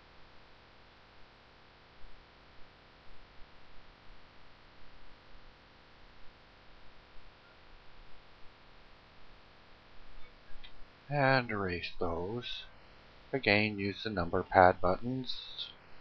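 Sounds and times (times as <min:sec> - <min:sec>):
microphone hiss and hum: 0:00.0 - 0:16.0.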